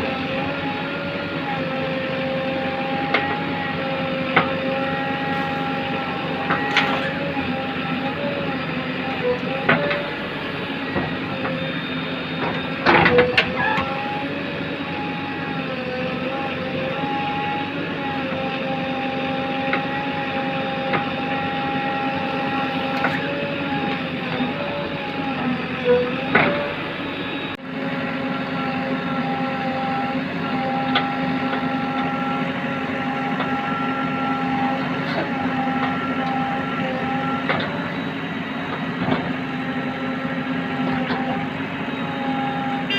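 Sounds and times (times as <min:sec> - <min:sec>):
diesel engine under load: 0:00.0 - 0:42.9.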